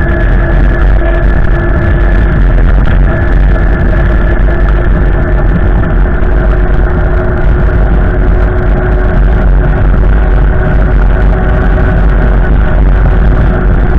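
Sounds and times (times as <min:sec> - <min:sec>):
steady tones: 0:00.0 - 0:13.9
wind blowing into microphone: 0:00.0 - 0:13.9.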